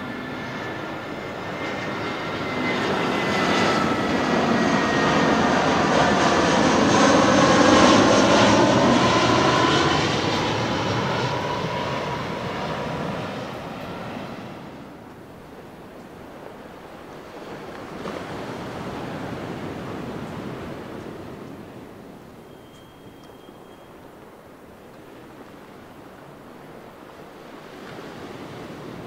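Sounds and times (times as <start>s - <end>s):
jet airliner flying past: 0.0s - 29.0s.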